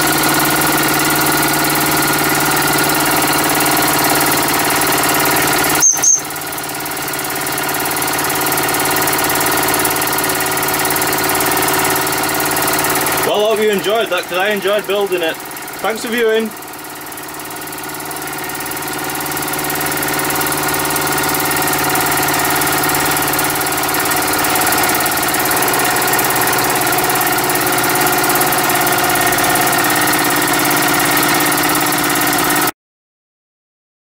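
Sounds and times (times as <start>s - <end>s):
model steam engine running: 0.0s - 32.7s.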